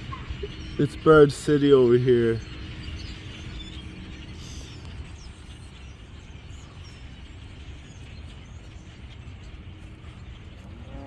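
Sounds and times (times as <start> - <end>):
birds chirping in flight: 0.0 - 11.0.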